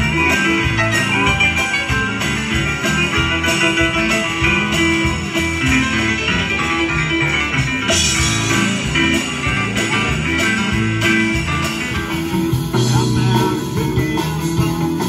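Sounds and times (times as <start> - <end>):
guitars: 0.0 - 15.0
live band playing: 0.0 - 15.0.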